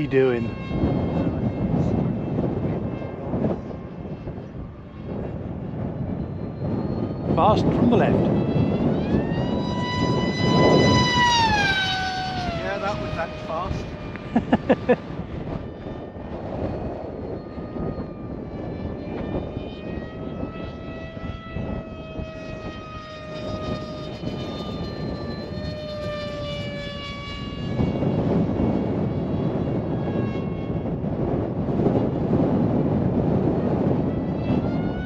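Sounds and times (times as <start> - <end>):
model plane electric motor humming: 0.0 - 35.0
wind on microphone: 0.0 - 35.0.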